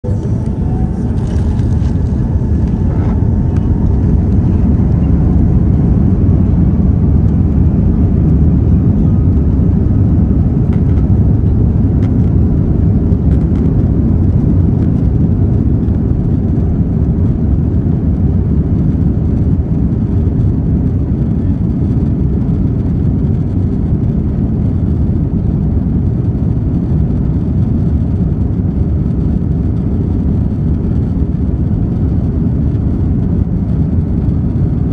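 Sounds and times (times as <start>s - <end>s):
jet engines low rumble: 0.0s - 34.9s.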